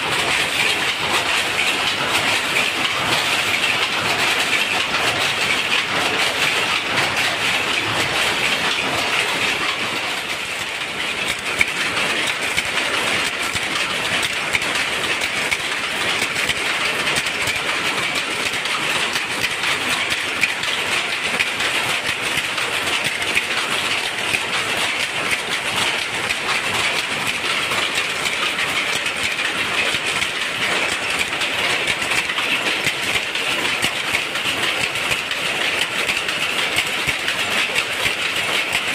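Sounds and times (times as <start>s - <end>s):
power loom clattering: 0.0s - 38.9s.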